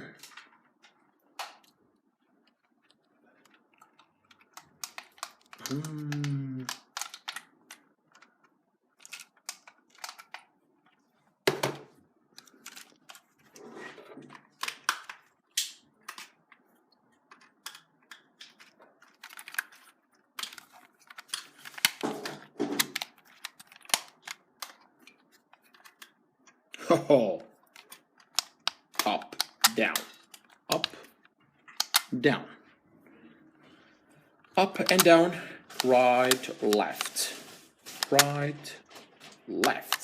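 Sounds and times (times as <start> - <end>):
hands handling plastic toy: 0.1 - 26.8, 27.4 - 32.2, 33.6 - 40.0.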